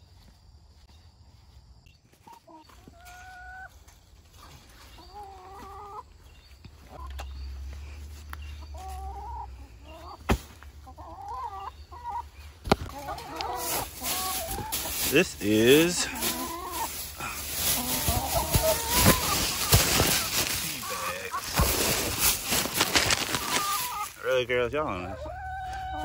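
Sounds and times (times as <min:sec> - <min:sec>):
hens clucking: 0:02.1 - 0:26.0.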